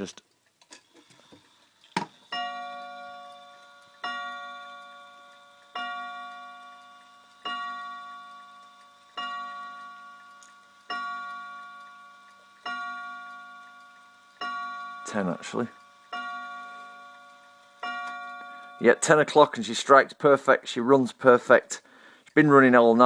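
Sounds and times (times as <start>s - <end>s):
clock striking on rods: 2.0s - 20.6s.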